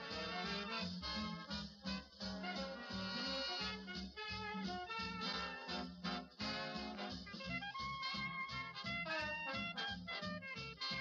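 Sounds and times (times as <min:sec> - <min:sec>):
swing background music: 0:00.0 - 0:11.0.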